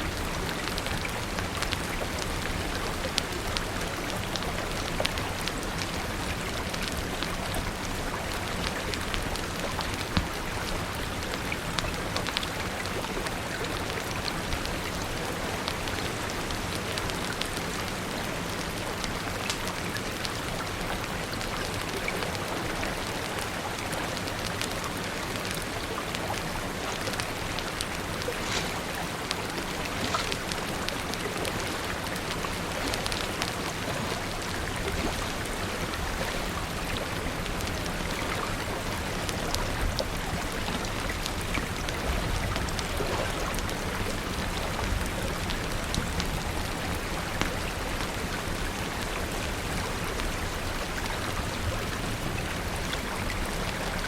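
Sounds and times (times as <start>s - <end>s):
steady rain: 0.0s - 54.0s
wood fire crackling: 0.1s - 54.0s.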